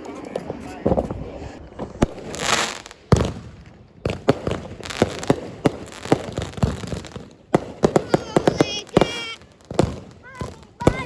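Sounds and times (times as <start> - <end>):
firework bang: 0.4 - 11.0
firework pops and crackles: 1.8 - 11.0
firework hiss: 2.0 - 11.0.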